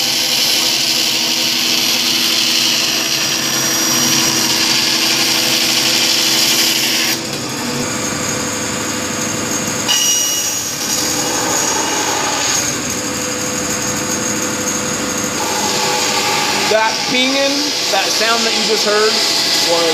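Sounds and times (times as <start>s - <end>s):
bandsaw cutting wood: 0.0s - 19.9s.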